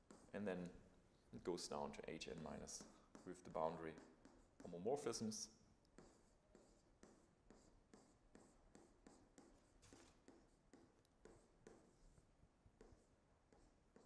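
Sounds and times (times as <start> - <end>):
stylus tapping and scratching: 0.0 - 0.8, 1.5 - 14.0.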